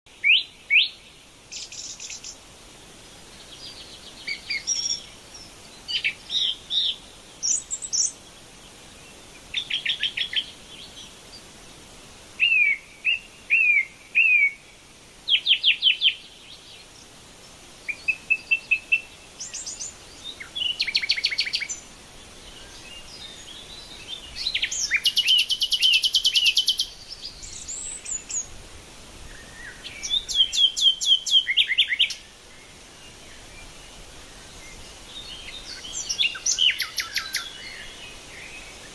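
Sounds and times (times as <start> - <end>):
faint background hiss: 0.1 - 38.9
songbirds chirping and trilling: 0.1 - 38.9.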